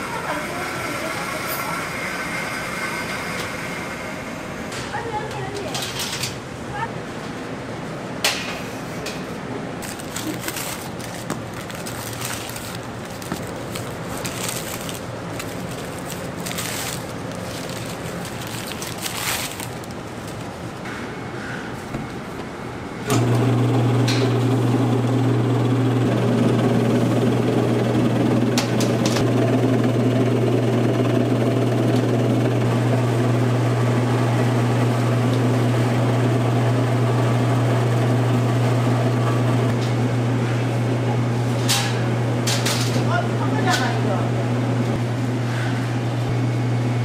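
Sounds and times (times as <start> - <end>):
loud machine hum: 0.0 - 5.0, 9.8 - 19.9, 23.0 - 47.0.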